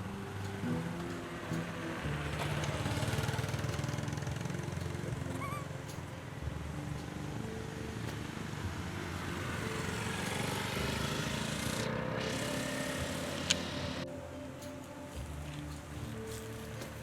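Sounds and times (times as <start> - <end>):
vehicle passing: 0.0 - 14.1
street traffic: 0.0 - 17.0.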